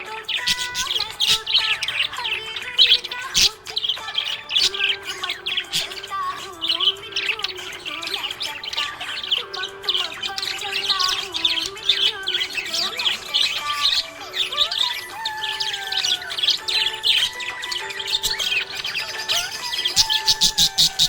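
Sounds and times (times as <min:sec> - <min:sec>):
background music: 0:00.0 - 0:21.0
budgerigars chirping: 0:00.0 - 0:21.0.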